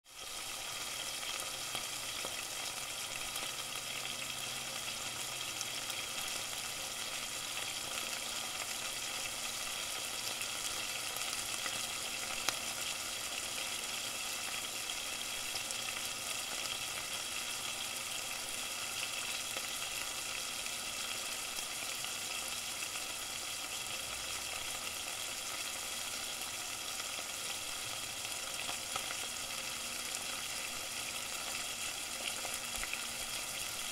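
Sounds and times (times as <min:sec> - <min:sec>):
food sizzling: 0:00.1 - 0:33.9.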